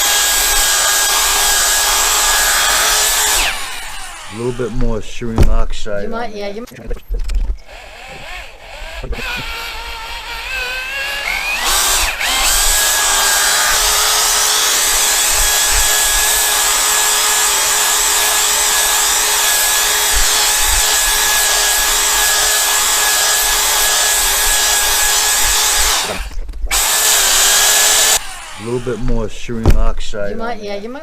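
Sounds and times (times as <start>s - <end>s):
power drill buffing: 0.0s - 5.2s, 7.6s - 29.8s.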